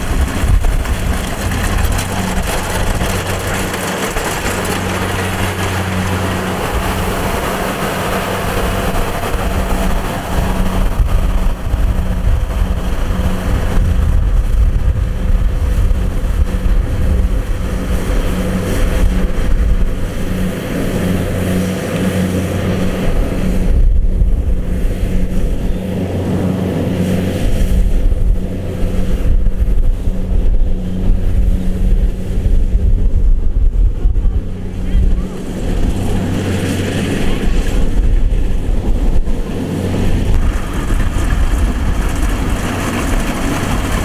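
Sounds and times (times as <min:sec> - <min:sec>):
combine harvester diesel engine: 0:00.0 - 0:44.0.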